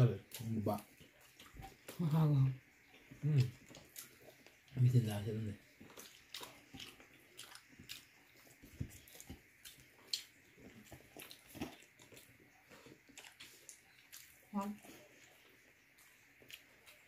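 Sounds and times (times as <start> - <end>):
person chewing and smacking: 0.0 - 17.0.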